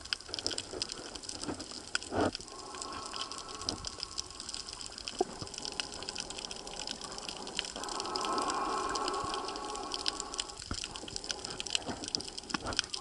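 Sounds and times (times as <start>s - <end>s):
rushing water and bubbles: 0.0s - 13.0s
underwater crackle of clicks: 0.0s - 13.0s.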